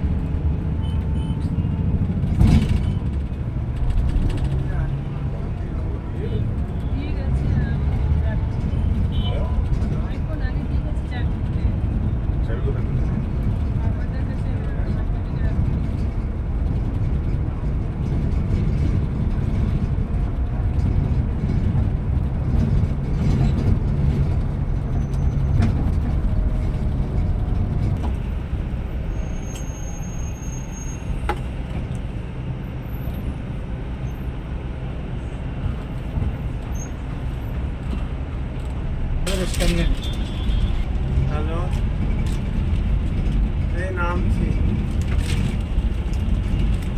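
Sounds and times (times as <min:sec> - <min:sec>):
coach engine and road rumble: 0:00.0 - 0:46.9.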